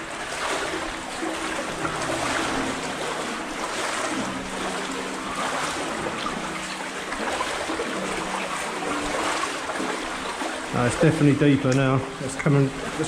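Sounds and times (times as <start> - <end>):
water sloshing around wading legs: 0.0 - 13.0.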